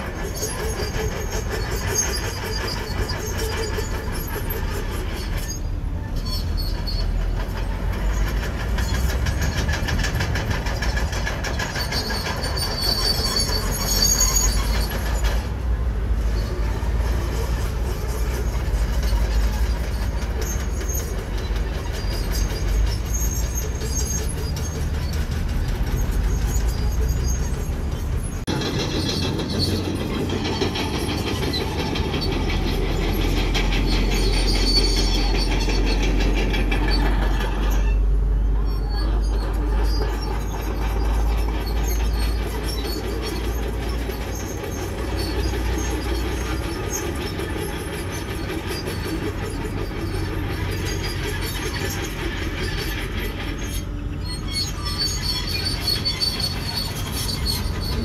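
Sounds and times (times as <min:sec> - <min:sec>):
bulldozer diesel engine rumble: 0:00.0 - 0:58.0
steel tracks clanking: 0:00.0 - 0:58.0.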